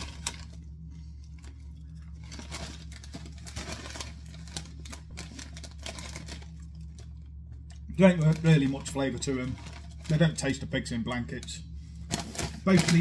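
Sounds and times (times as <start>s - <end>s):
crisp packet crinkling: 0.0s - 13.0s
steady low hum: 0.0s - 13.0s.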